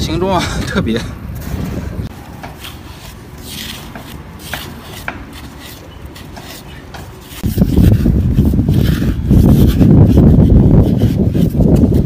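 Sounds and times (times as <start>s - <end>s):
hands digging in wet sand: 2.2s - 12.0s.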